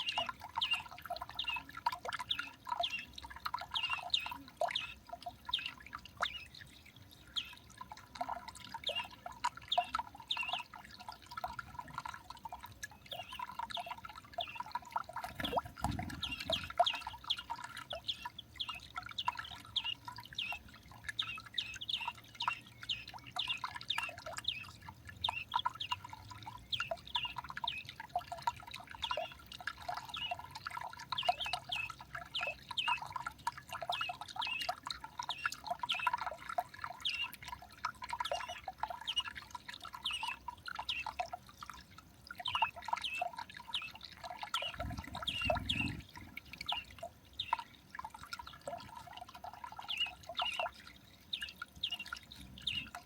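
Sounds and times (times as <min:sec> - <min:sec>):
small birds chirping: 0:00.0 - 0:41.4, 0:42.3 - 0:53.0.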